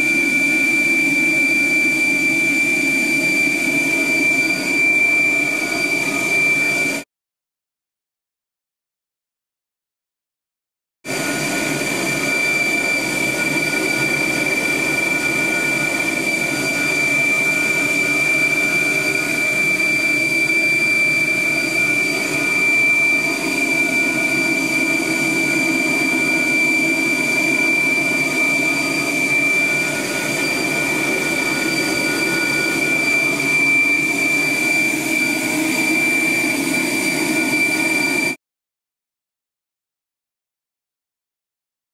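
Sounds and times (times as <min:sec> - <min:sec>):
high-pitched whistle: 0:00.0 - 0:07.0, 0:11.1 - 0:38.4.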